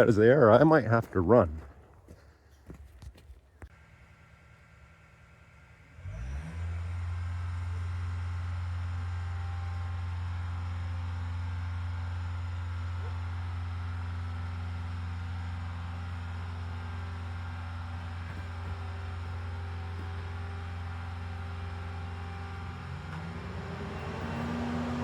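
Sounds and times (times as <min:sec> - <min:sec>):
diesel engine starting and running: 0:03.5 - 0:25.0.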